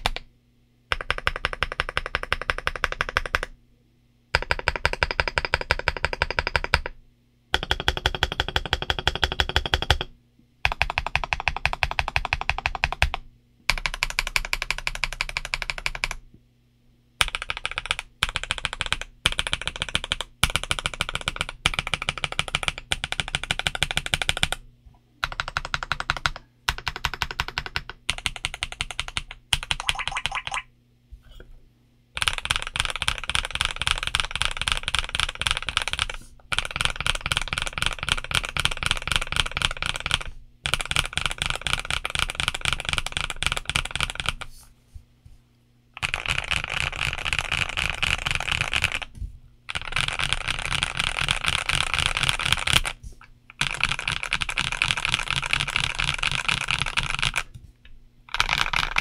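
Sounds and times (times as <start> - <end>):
fast typing on mechanical keyboard: 0.0 - 0.2, 0.9 - 3.5, 4.4 - 7.0, 7.6 - 16.2, 17.2 - 24.6, 25.2 - 30.6, 32.2 - 44.5, 46.0 - 49.1, 49.7 - 57.6, 58.3 - 59.0.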